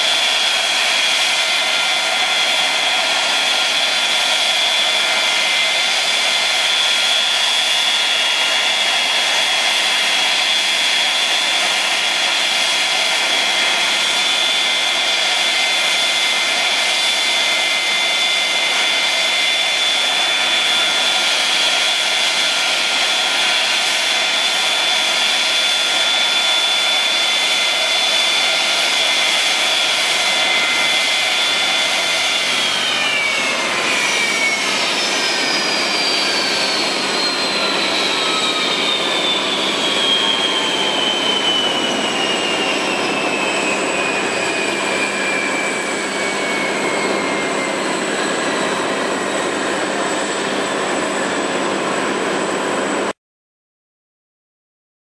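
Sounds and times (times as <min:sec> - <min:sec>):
jet engines whining: 0:00.0 - 0:53.2.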